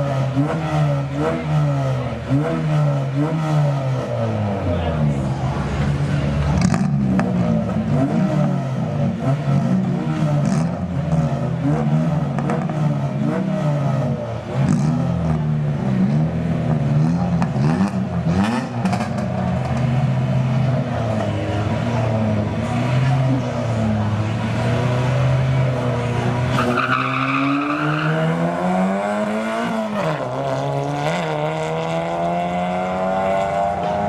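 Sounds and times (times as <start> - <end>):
car engines idling and revving: 0.0 - 34.0.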